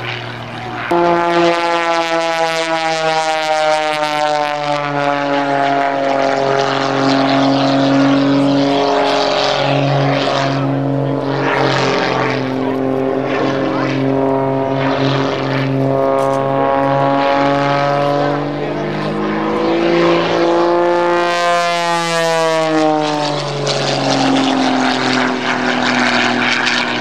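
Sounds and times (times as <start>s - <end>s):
propeller plane engine overhead: 0.0s - 27.0s
rushing propeller noise: 0.0s - 27.0s.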